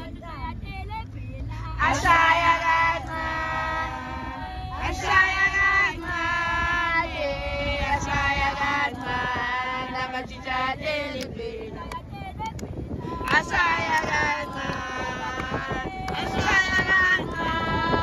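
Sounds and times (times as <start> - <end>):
women singing together: 0.0 - 18.0.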